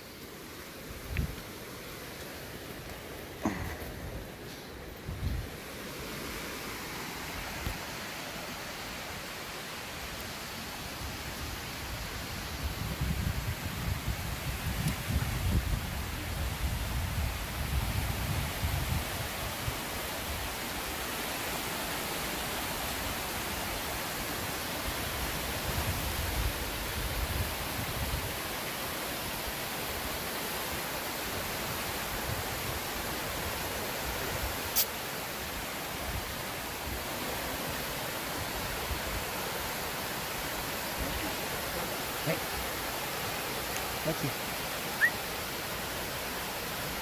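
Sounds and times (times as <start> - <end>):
river rushing over rocks: 0.0 - 47.0.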